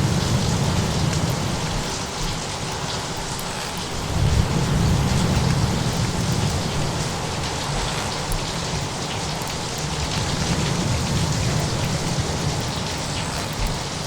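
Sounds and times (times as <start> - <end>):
steady rain: 0.0 - 14.0
faint ticks: 1.0 - 14.0.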